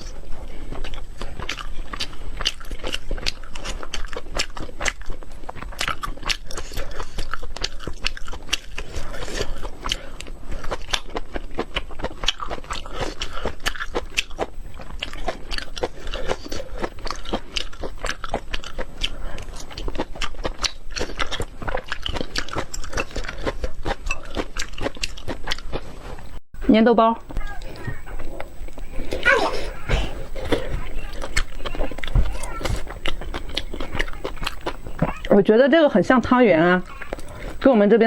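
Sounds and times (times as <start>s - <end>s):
person biting and chewing: 0.0s - 26.2s, 27.7s - 35.3s, 36.8s - 37.6s.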